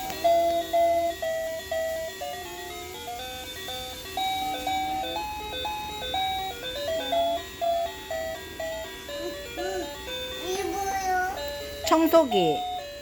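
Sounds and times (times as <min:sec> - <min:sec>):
toy electronic beeping melody: 0:00.0 - 0:13.0.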